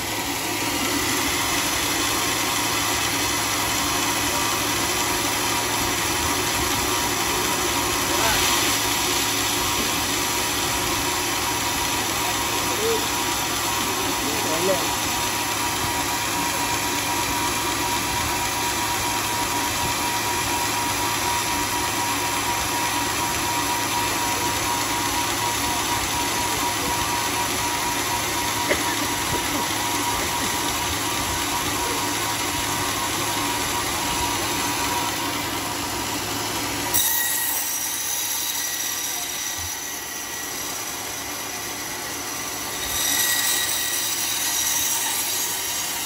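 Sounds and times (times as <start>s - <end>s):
band sawmill droning: 0.0s - 46.0s.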